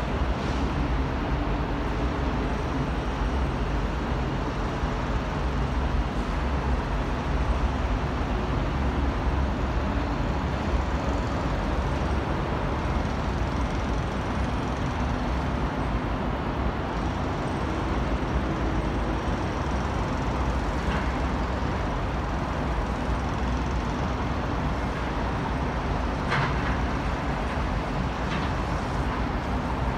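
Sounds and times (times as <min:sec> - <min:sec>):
city road traffic hum: 0:00.0 - 0:29.9.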